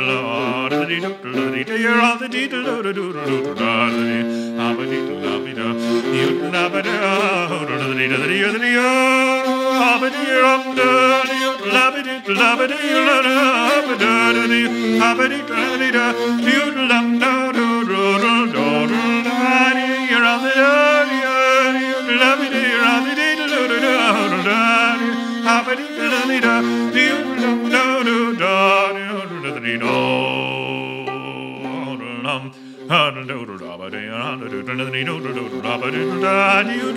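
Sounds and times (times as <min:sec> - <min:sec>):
bowed fiddle melody: 0:00.0 - 0:36.9
man singing: 0:00.0 - 0:36.9.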